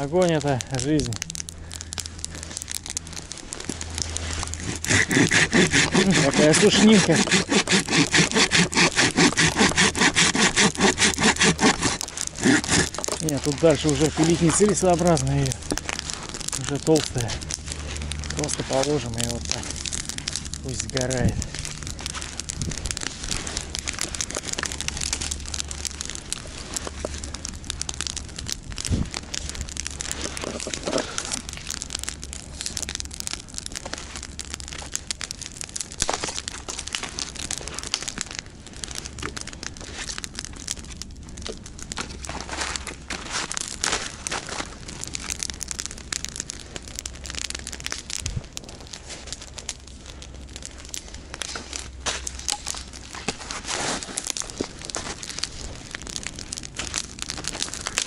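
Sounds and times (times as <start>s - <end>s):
campfire crackling and popping: 0.0s - 58.0s
low steady rumble: 0.0s - 58.0s.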